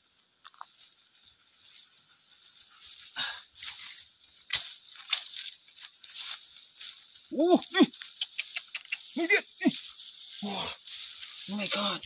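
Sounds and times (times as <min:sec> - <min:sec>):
footsteps on dry straw: 0:00.0 - 0:12.0.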